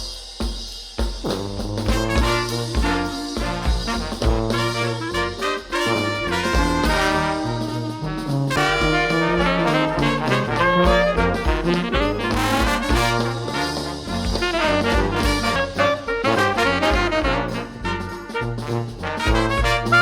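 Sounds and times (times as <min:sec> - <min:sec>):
upbeat brass swing music: 0:01.0 - 0:20.0.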